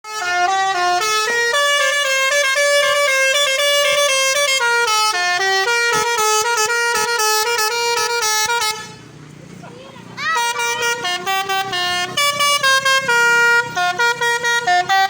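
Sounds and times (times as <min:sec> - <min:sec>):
musical air horn playing tune: 0:00.0 - 0:09.1, 0:10.2 - 0:15.0.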